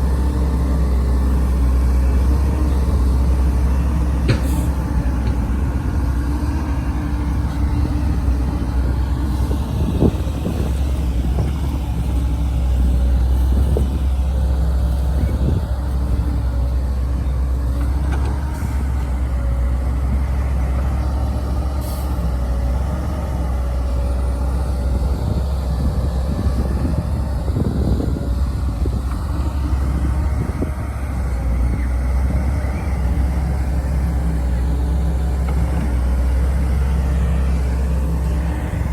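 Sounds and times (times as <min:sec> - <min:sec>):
excavator digging and loading dirt: 0:00.0 - 0:38.9
excavator engine droning: 0:00.0 - 0:38.9.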